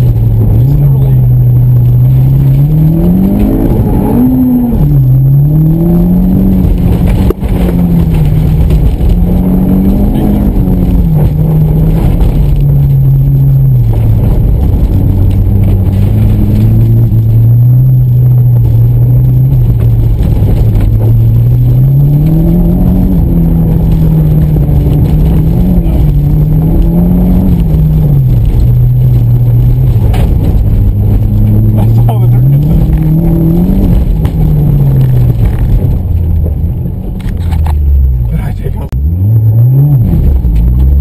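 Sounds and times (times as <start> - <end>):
car engine under load: 0.0 - 41.0
steady low rumble: 0.0 - 41.0.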